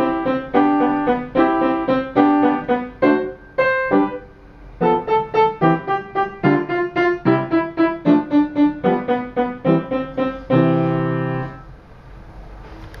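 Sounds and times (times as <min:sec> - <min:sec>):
piano playing quick repeated notes: 0:00.0 - 0:11.7.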